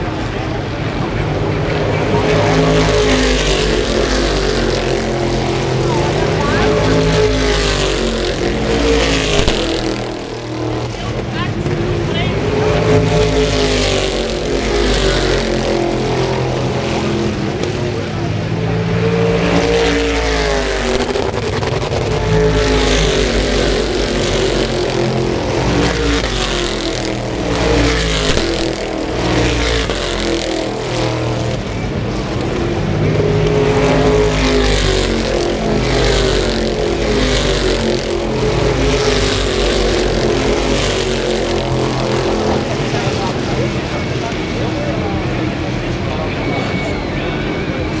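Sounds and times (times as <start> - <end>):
race car engines passing: 0.0 - 48.0.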